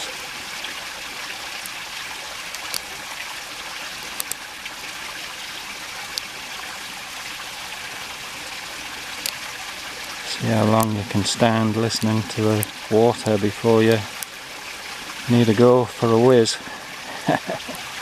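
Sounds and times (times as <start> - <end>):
creek running: 0.0 - 18.0.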